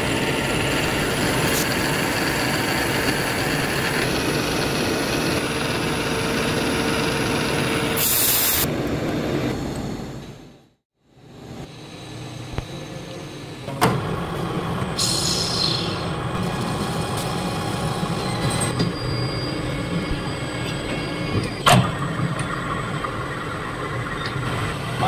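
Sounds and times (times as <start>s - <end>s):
metal lathe motor humming: 0.0s - 8.0s, 12.8s - 25.0s.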